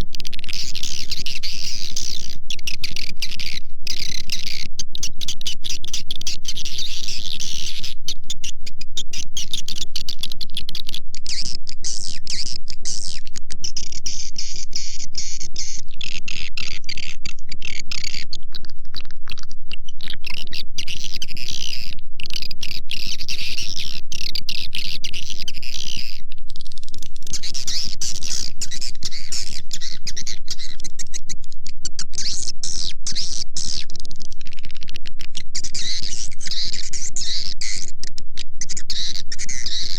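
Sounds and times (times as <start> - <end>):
recorded swiftlet calls chirping: 0.0 - 39.9.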